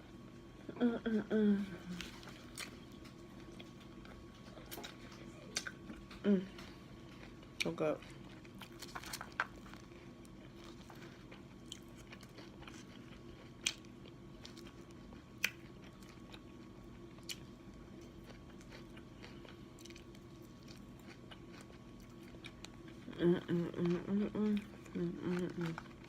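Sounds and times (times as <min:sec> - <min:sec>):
faint steady hum: 0:00.0 - 0:26.0
chewing sandwich: 0:01.9 - 0:26.0.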